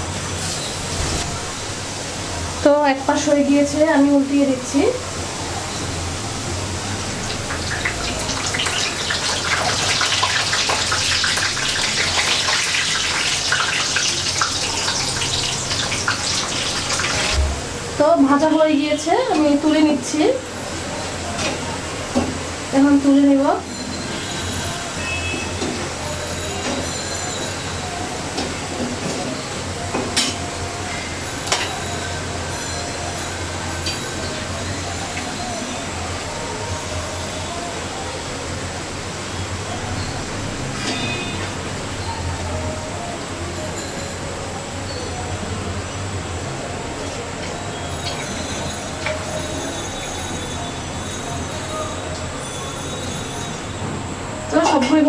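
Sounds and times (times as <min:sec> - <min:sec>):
food sizzling in hot oil: 0:00.4 - 0:37.7, 0:46.9 - 0:53.8.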